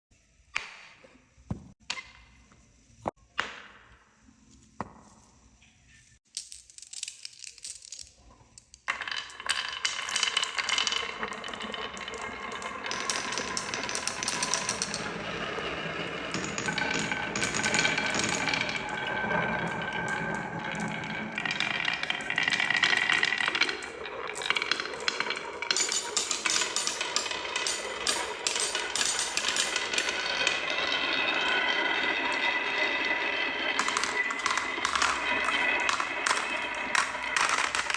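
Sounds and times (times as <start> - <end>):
marbles rattling down wooden track: 6.3 - 37.9.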